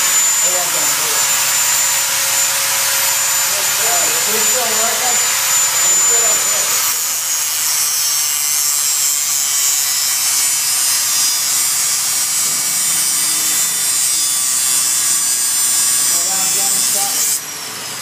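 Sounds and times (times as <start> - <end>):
power tool cutting steel: 0.0 - 18.0.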